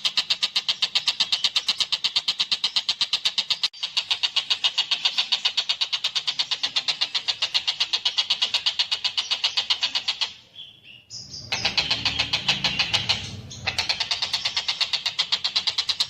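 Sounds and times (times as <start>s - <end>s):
kingfisher rattling chatter: 0.0s - 10.4s, 11.5s - 16.0s.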